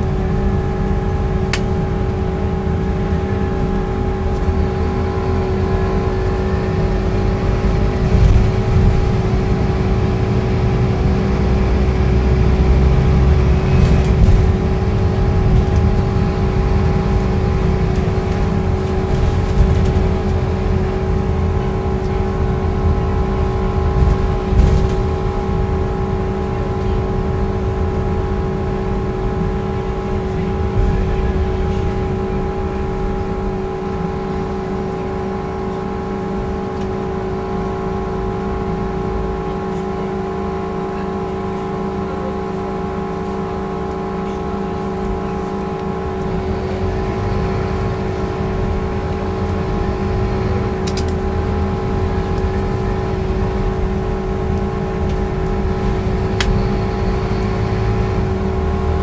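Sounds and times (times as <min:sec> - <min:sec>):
bus engine rumble: 0:00.0 - 0:59.0
drivetrain whine: 0:00.0 - 0:59.0.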